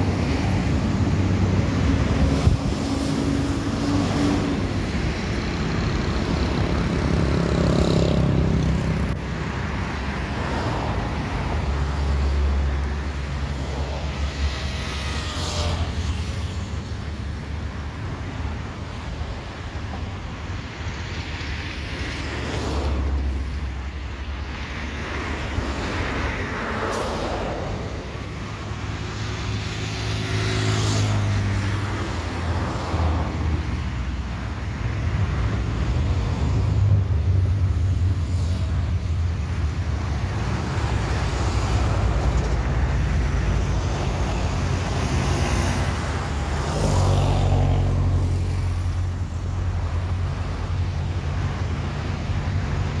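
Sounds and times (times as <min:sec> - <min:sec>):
cars and trucks passing: 0:00.0 - 0:53.0
low traffic rumble: 0:00.0 - 0:53.0.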